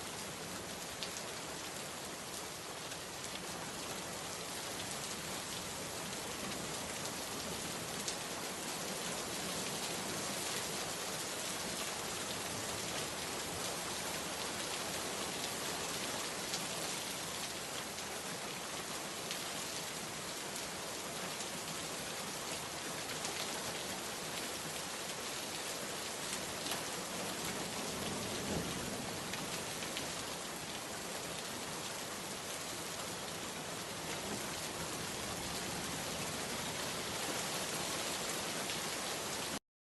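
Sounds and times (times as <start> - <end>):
steady rain falling: 0.0 - 39.6.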